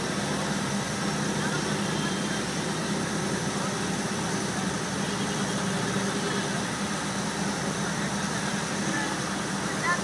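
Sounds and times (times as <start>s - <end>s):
fountain water rushing: 0.0s - 10.0s.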